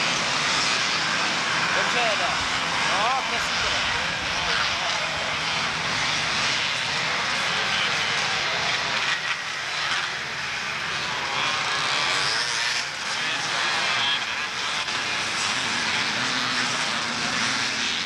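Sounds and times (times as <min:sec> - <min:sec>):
motorcycle engines racing by: 0:00.0 - 0:18.0.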